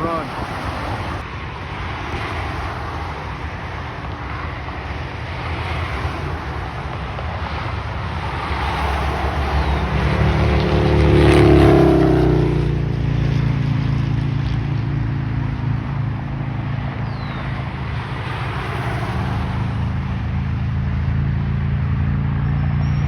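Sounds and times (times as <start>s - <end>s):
expressway traffic rushing: 0.0s - 23.0s
vehicle passing close: 0.0s - 23.0s.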